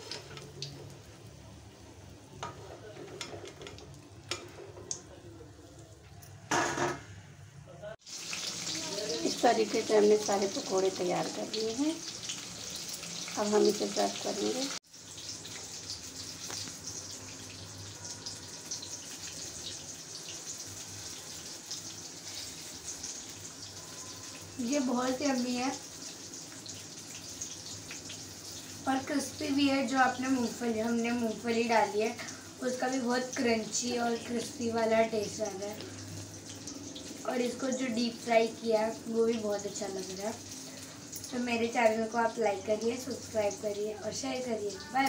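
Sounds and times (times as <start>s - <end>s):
food sizzling in hot oil: 0.0s - 2.7s, 8.0s - 45.0s.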